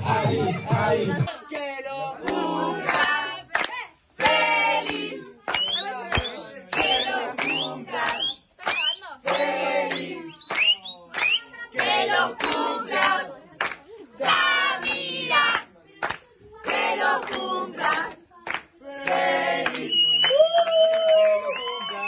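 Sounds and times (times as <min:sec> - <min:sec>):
young voices singing together: 0:00.0 - 0:10.6, 0:11.5 - 0:19.9
hand claps: 0:01.6 - 0:13.9, 0:14.9 - 0:22.0.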